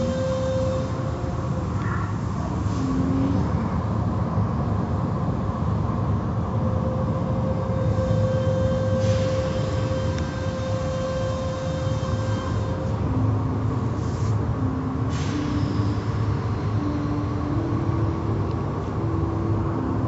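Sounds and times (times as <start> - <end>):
car wash machinery rumble: 0.0 - 20.0.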